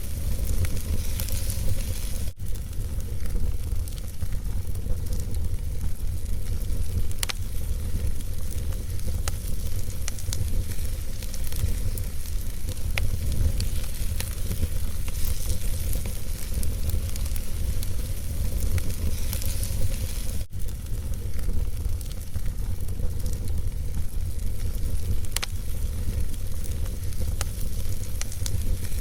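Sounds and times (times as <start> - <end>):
wood fire burning: 0.0 - 29.0.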